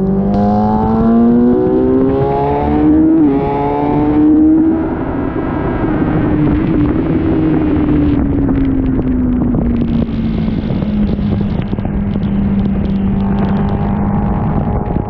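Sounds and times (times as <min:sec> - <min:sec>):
motorcycle engine: 0:00.0 - 0:15.0
wind on microphone: 0:00.0 - 0:15.0.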